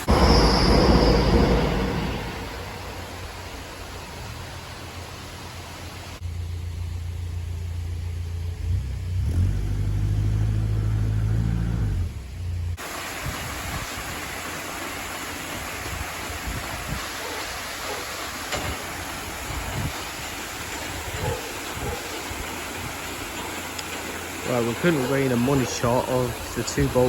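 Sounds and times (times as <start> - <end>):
outdoor wind noise: 0.0 - 24.5.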